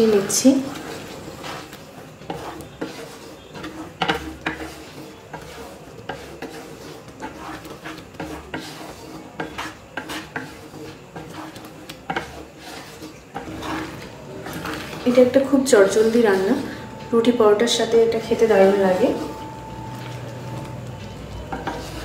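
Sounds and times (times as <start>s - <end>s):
wooden spatula scraping pan: 0.0s - 22.0s.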